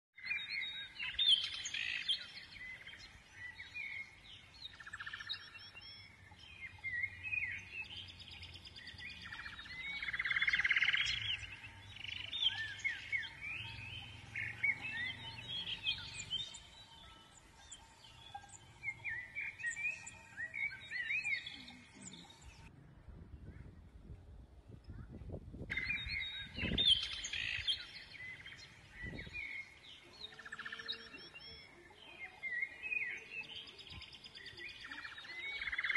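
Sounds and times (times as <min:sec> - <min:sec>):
birds chirping and whistling: 0:00.2 - 0:22.7, 0:25.7 - 0:35.9.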